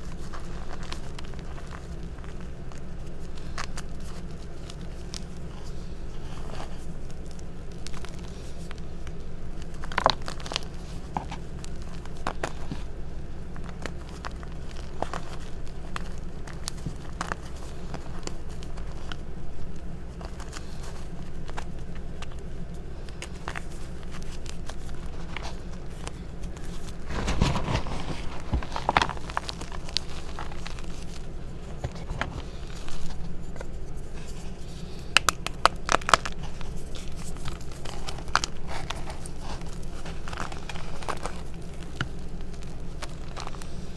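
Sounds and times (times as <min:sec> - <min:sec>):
chalk chunks snapping: 0:00.0 - 0:43.9
chalk crunching in hands: 0:00.0 - 0:43.9.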